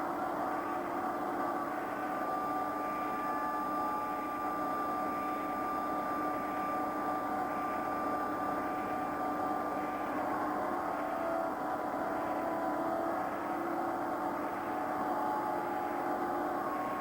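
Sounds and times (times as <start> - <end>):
high whine: 0.0 - 17.0
mechanical drone: 0.0 - 17.0.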